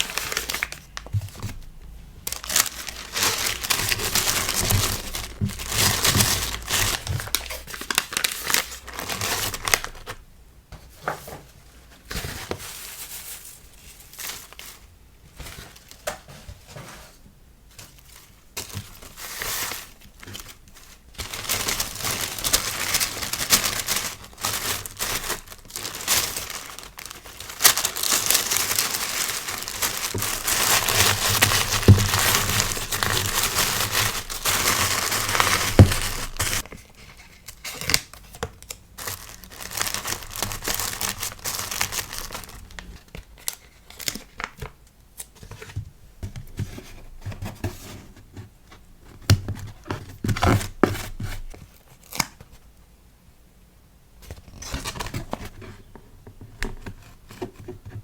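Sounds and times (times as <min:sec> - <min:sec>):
plastic and paper crinkling: 0:00.0 - 0:10.2, 0:11.0 - 0:52.6.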